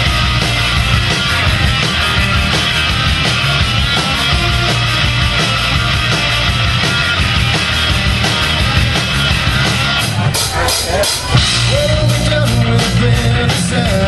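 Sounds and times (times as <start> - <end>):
bass guitar: 0.0 - 14.0
distorted electric guitar: 0.0 - 14.0
drum kit beat: 0.0 - 14.0.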